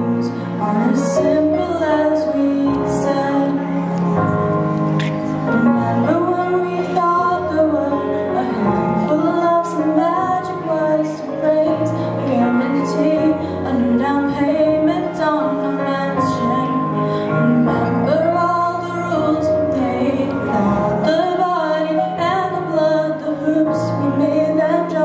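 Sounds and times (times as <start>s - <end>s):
woman singing into a microphone: 0.0s - 4.4s, 5.2s - 25.0s
instrumental accompaniment: 0.0s - 25.0s.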